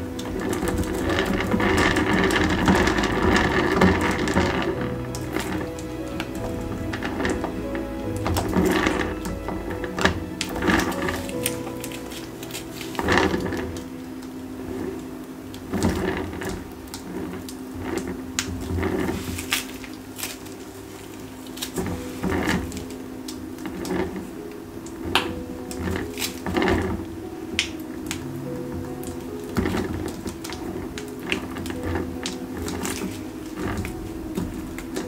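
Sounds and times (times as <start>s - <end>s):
hands handling plastic piping bag: 0.0s - 35.0s.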